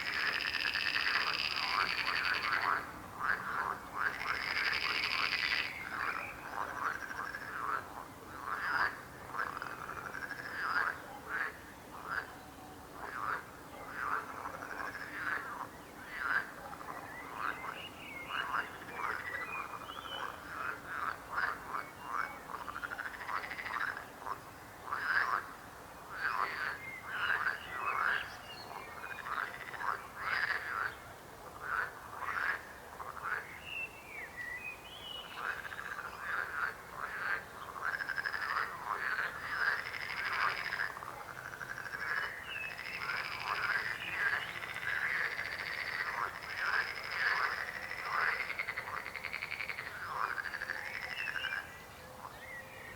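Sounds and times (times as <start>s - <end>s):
frogs croaking: 0.0s - 52.9s.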